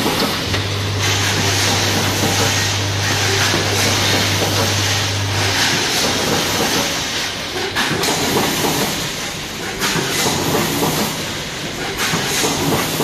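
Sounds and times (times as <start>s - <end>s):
packaging machine clattering and hissing: 0.0s - 13.0s.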